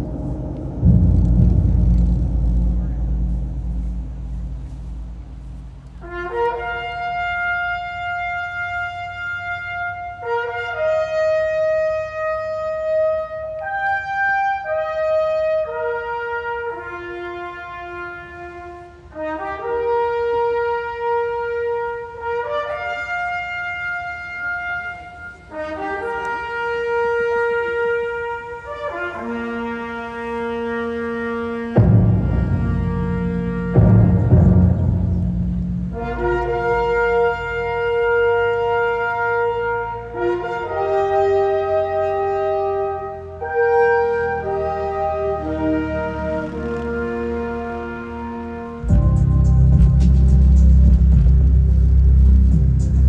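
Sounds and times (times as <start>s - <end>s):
slow brass melody: 0.0s - 53.0s.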